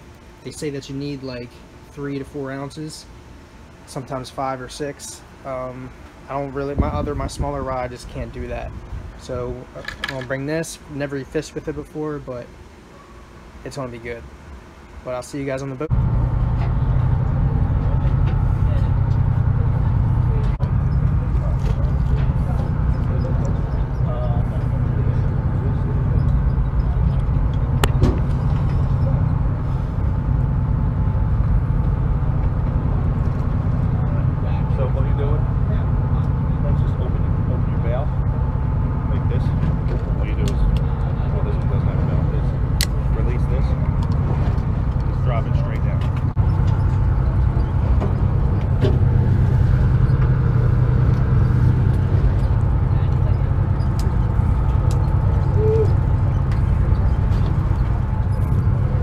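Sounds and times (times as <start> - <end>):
boat engine rumbling: 5.2 - 11.5, 14.8 - 59.0.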